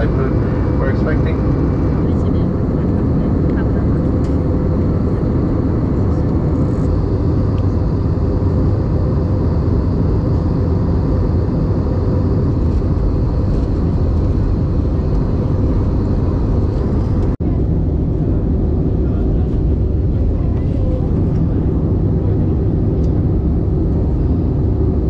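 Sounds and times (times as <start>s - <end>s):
airliner cabin engine and airflow noise: 0.0s - 25.0s.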